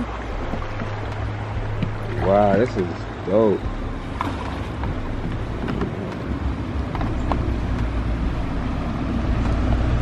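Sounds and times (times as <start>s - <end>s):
river water: 0.0s - 10.0s.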